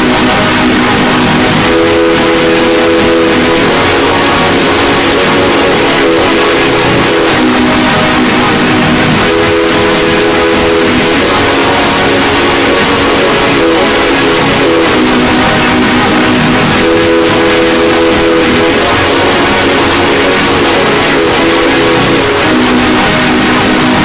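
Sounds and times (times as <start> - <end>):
harsh distorted electronic noise: 0.0 - 24.0
repeating chord-like tone: 0.0 - 24.0.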